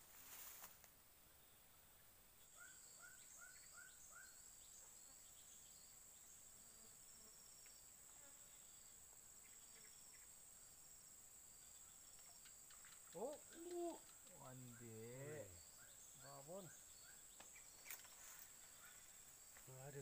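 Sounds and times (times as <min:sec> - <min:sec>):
insect chorus buzzing: 0:00.0 - 0:20.0.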